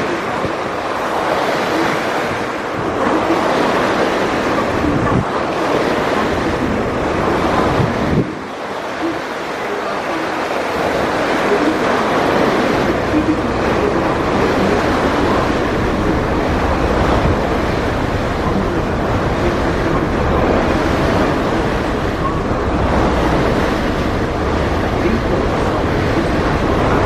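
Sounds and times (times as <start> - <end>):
ferry engine rumble: 0.0 - 27.0
water wash: 0.0 - 27.0
wind noise on microphone: 0.0 - 27.0.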